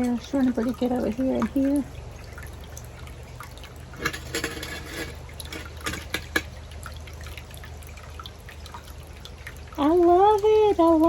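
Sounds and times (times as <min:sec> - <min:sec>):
fountain water trickling and dripping: 0:00.0 - 0:11.0
pump humming: 0:00.0 - 0:11.0.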